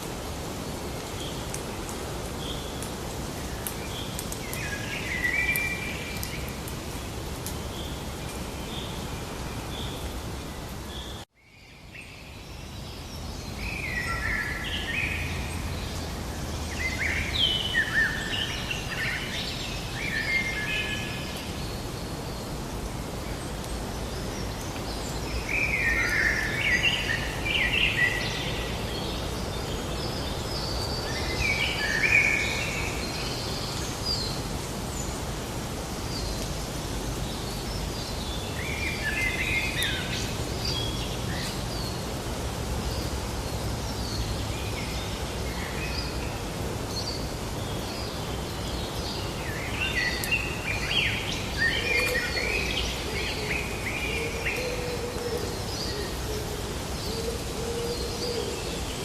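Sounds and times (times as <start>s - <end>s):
outdoor background noise: 0.0s - 59.0s
songbirds chirping: 0.0s - 59.0s.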